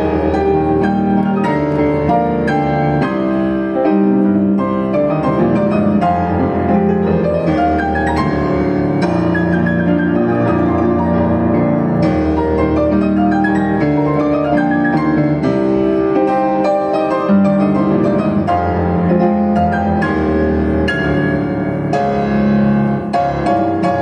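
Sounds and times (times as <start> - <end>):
grand piano piece: 0.0 - 24.0.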